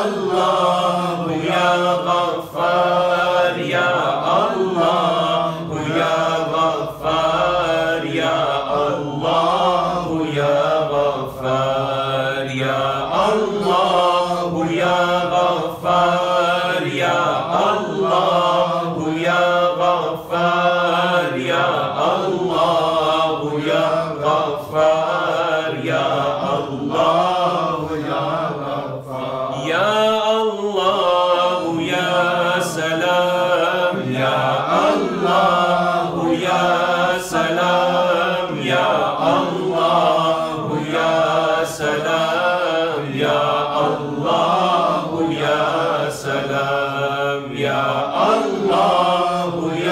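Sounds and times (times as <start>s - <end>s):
man chanting melodically: 0.0s - 49.9s.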